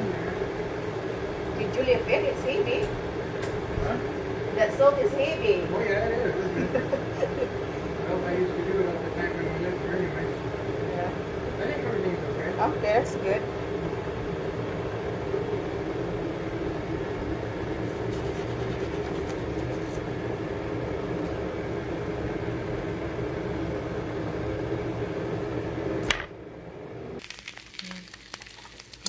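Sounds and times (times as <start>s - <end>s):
appliance fan motor humming: 0.0s - 29.0s.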